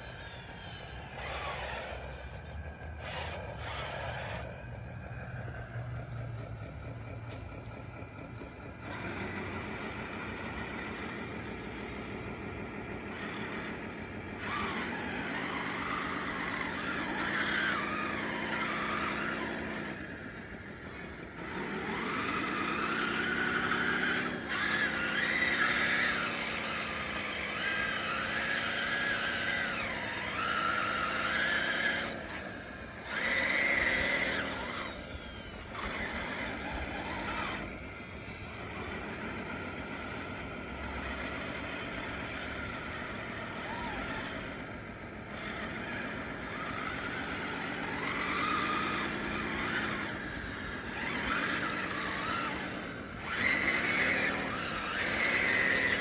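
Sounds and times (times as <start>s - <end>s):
toy bulldozer motors whining: 0.0s - 56.0s.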